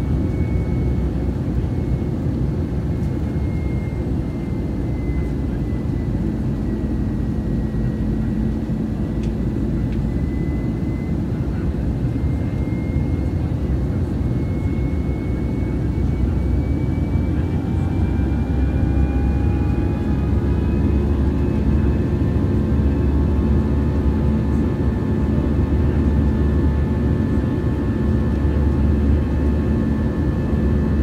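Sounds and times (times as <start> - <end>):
airplane cabin rumble: 0.0 - 31.0
jet engine whine: 0.0 - 31.0.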